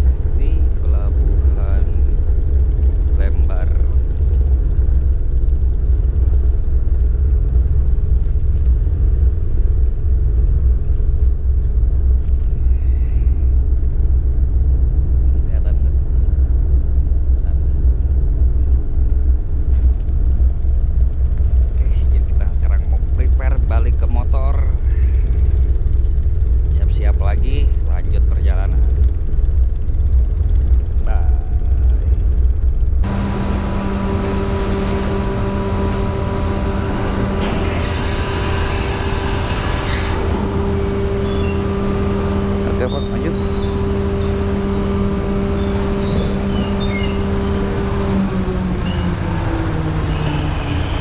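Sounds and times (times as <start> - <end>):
ferry diesel engines droning: 0.0 - 51.0.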